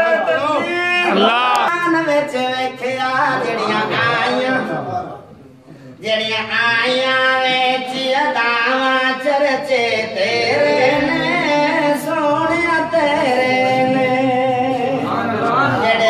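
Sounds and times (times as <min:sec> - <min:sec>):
man singing into microphone: 0:00.0 - 0:04.6, 0:06.0 - 0:16.0.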